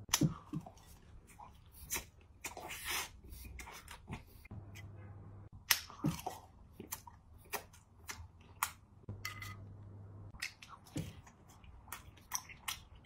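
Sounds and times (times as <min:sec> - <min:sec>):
person chewing food: 0:00.0 - 0:09.6, 0:10.3 - 0:13.0.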